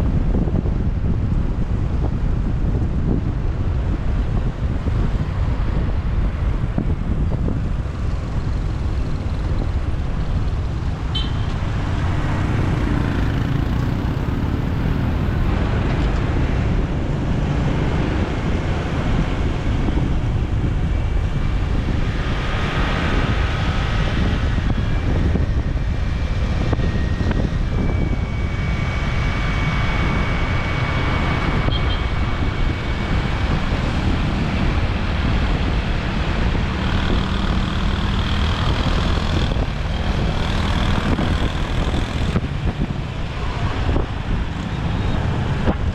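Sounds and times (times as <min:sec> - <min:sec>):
motorbike engine and road rumble: 0:00.0 - 0:45.9
thin tones from passing vehicles: 0:04.4 - 0:45.9.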